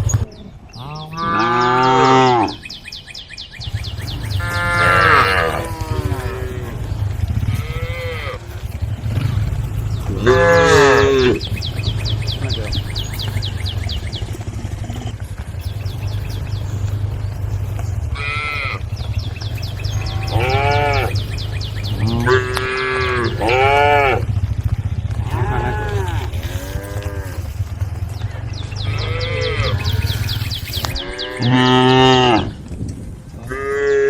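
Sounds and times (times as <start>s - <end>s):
cattle mooing: 0.8s - 2.6s, 4.0s - 24.4s, 25.1s - 27.9s, 28.6s - 32.6s, 33.4s - 34.0s
steady low rumble: 2.5s - 33.7s.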